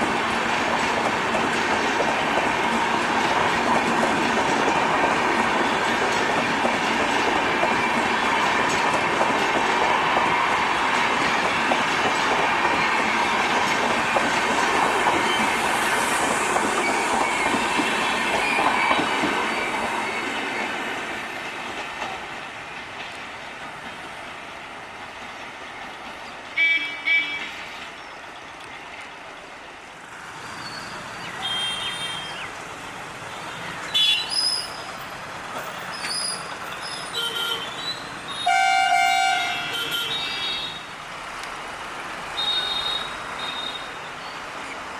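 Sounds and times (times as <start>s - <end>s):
train wheels clickety-clack: 0.0s - 29.2s, 30.2s - 44.9s.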